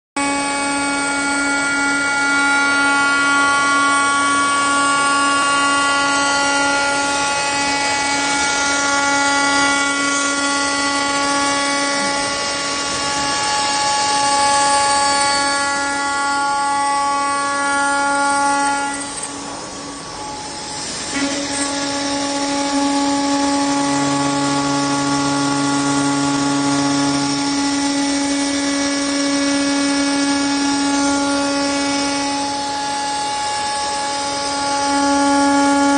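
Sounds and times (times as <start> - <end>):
cnc router spindle whine: 0.2 - 35.9.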